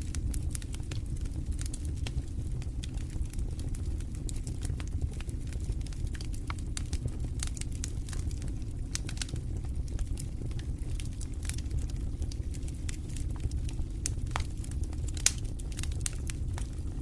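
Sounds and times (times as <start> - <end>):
logs crackling and popping: 0.0 - 17.0
wood fire burning: 0.0 - 17.0.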